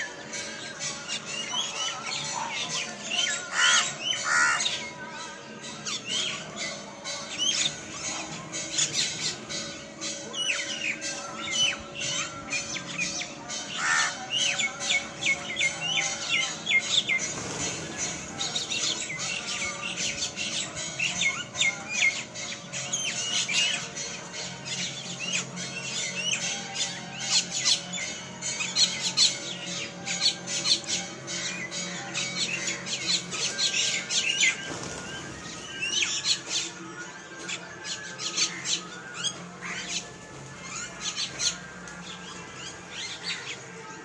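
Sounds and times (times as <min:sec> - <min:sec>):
small birds chirping and squawking: 0:00.0 - 0:44.0.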